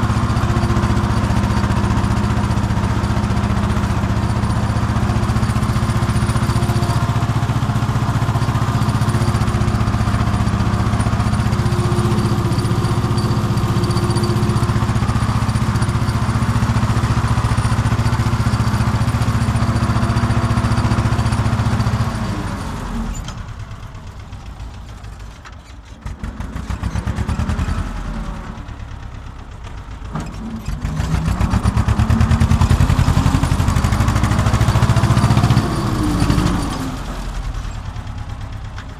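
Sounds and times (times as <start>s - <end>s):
tractor diesel engine: 0.0s - 38.9s.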